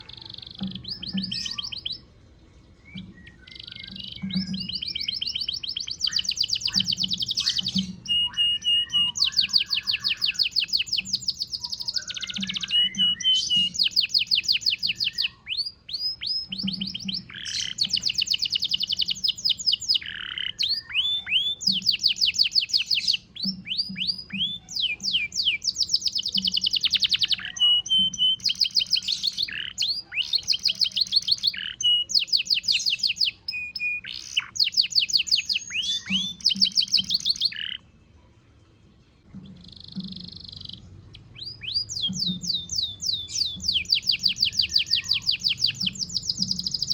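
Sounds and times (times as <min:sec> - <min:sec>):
canary singing trills: 0:00.0 - 0:38.0, 0:39.2 - 0:46.9.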